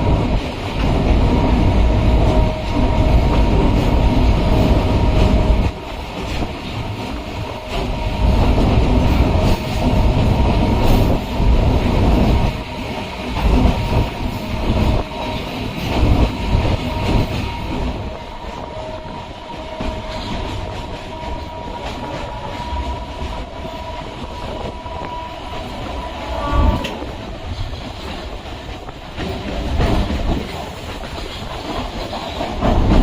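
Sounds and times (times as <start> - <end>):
train bump: 0.0 - 33.0
train high whine: 0.0 - 33.0
train wheels clattering over joints: 0.0 - 33.0.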